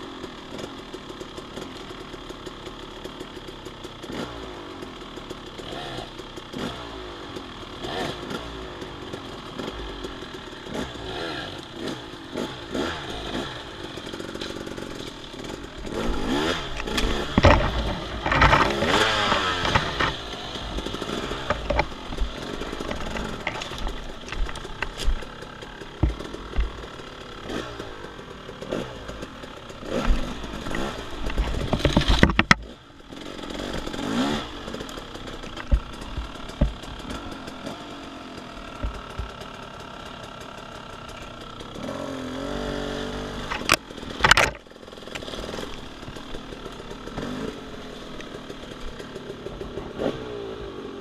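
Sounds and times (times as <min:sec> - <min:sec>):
dirt bike engine revving: 0:02.9 - 0:51.0
bike clattering over rough ground: 0:08.0 - 0:42.6, 0:43.4 - 0:50.2.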